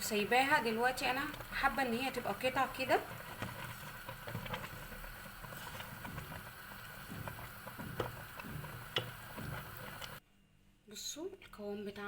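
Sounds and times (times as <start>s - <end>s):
spoon stirring thick jam: 0.4s - 10.2s.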